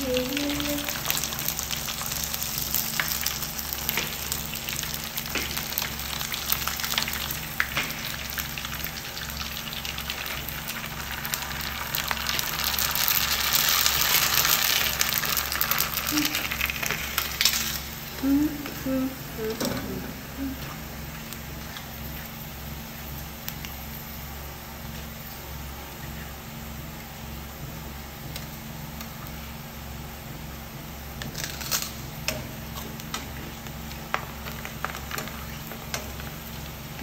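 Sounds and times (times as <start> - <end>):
crackers deep-frying in oil: 0.0 - 37.0.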